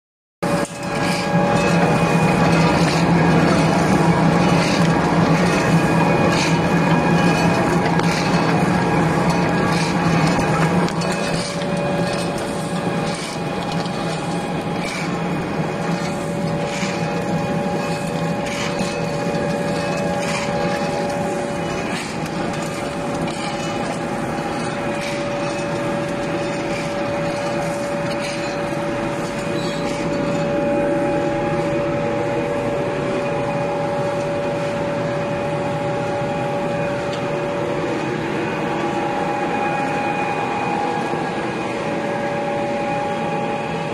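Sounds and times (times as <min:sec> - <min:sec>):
machinery motor hum and whine: 0:00.4 - 0:43.9.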